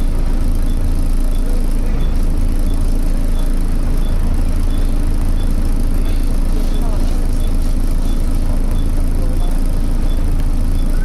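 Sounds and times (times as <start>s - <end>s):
bus diesel engine rumbling: 0.0s - 11.0s
faint high ticking: 0.0s - 11.0s.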